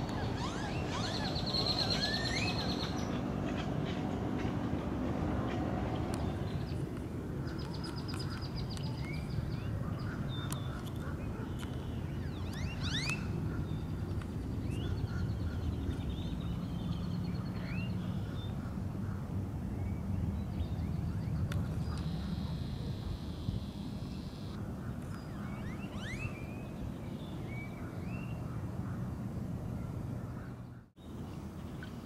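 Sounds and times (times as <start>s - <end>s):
birds calling: 0.0s - 4.5s, 7.4s - 29.0s.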